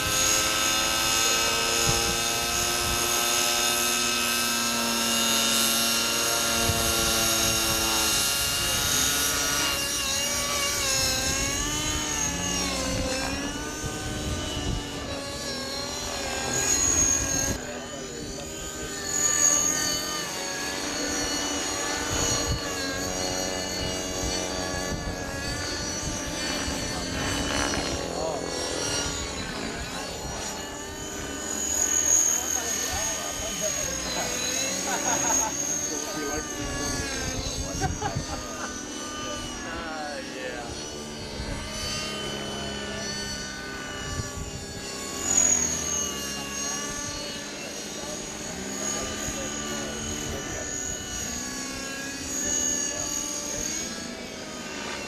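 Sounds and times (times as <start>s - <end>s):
helicopter rotor noise: 0.0s - 55.0s
model helicopter motor whine: 0.0s - 55.0s.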